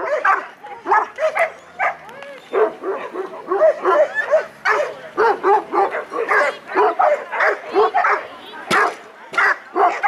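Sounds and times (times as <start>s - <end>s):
dog yipping: 0.0s - 8.2s.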